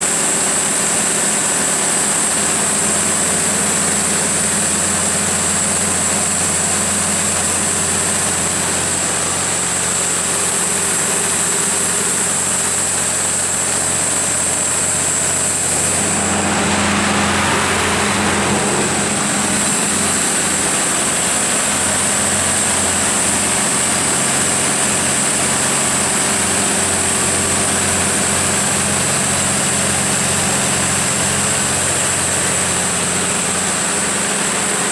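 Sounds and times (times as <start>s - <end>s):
diesel generator running: 0.0s - 34.9s
broad rushing noise: 2.0s - 34.9s.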